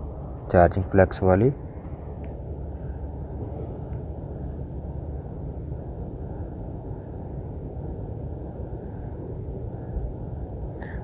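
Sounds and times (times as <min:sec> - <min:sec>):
faint high-pitched whine: 0:00.0 - 0:11.0.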